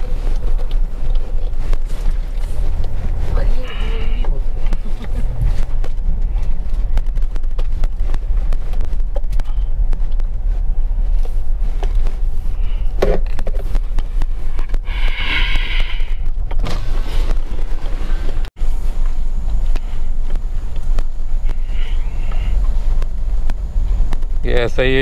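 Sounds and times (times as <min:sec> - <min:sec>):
car rumbling over rough road: 0:00.0 - 0:25.0.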